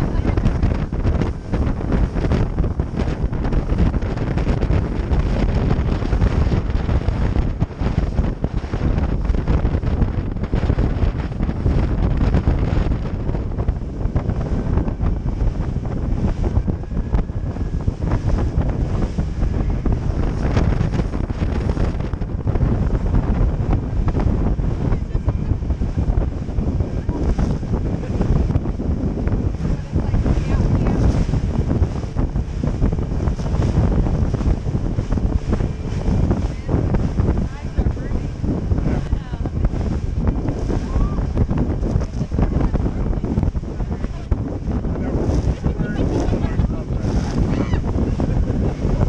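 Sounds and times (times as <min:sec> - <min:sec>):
water rushing past boat hull: 0:00.0 - 0:49.0
wind buffeting microphone: 0:00.0 - 0:49.0.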